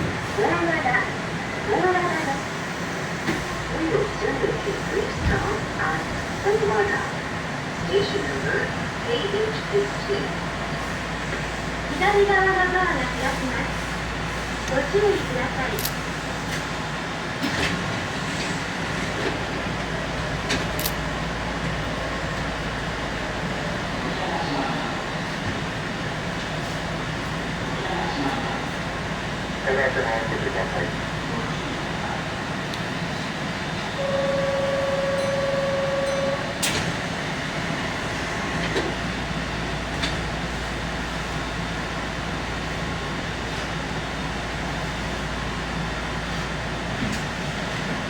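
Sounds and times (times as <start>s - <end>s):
train rumble and hum: 0.0s - 48.0s.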